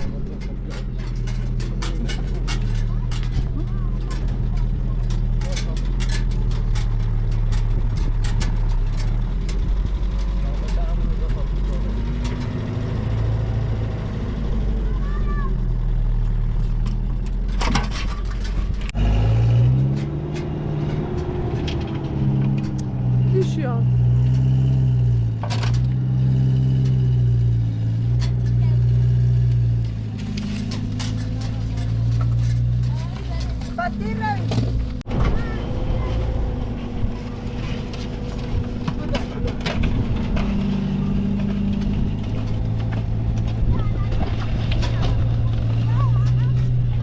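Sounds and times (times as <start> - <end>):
engine knocks and clatter: 0.0 - 47.0
engine running: 0.0 - 47.0.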